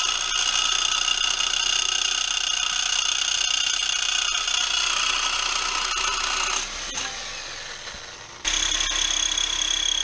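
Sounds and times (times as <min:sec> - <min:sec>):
power cutting tool running: 0:00.0 - 0:10.0.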